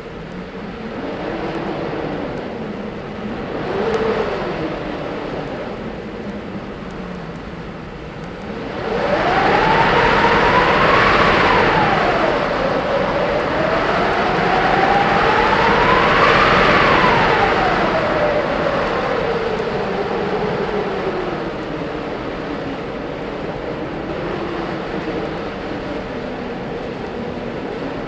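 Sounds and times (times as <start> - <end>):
wind blowing in gusts: 0.0 - 28.0
wind whistling: 0.0 - 28.0.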